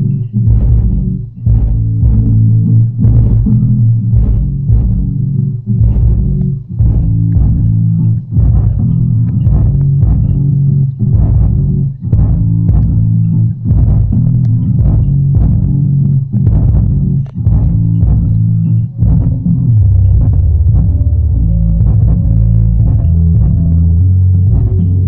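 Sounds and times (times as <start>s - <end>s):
music with plucked bass line: 0.0s - 25.0s.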